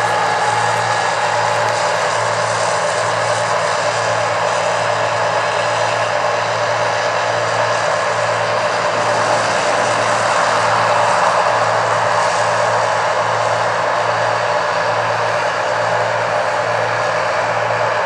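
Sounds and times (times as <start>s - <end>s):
combine harvester droning: 0.0s - 18.0s.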